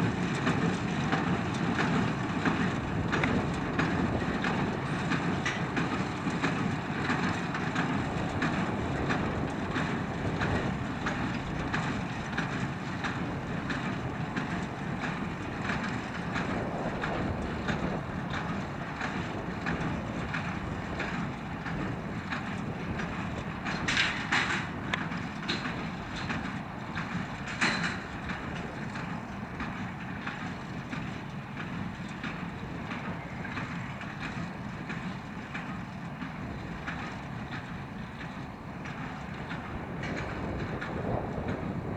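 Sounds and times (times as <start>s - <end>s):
faint regular implement beat: 0.0s - 41.9s
tractor engine running: 0.0s - 41.9s.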